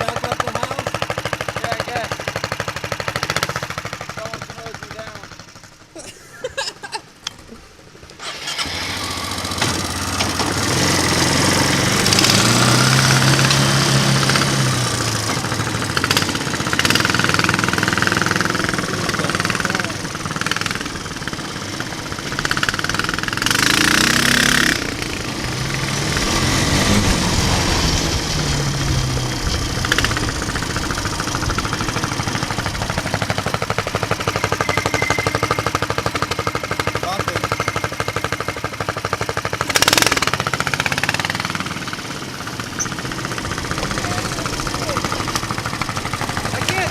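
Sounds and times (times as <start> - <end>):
mini bike engine revving: 0.0 - 5.9, 8.2 - 46.9.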